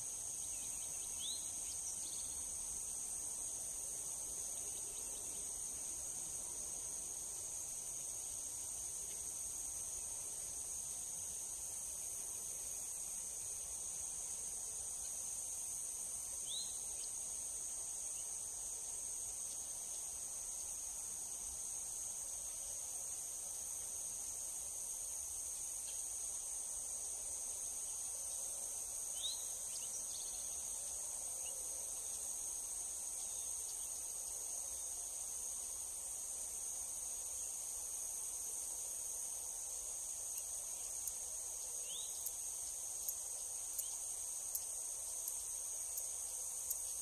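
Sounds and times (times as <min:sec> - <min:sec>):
high-pitched insect chorus: 0:00.0 - 0:47.0.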